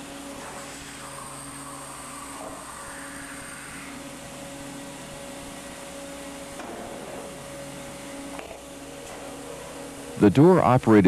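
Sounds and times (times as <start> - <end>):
hydraulic hum: 0.0 - 11.0.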